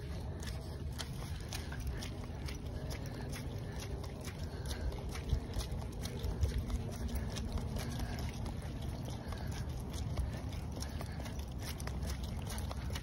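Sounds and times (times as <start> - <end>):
low rumble: 0.0 - 13.0
paw and shoe footsteps: 0.0 - 13.0.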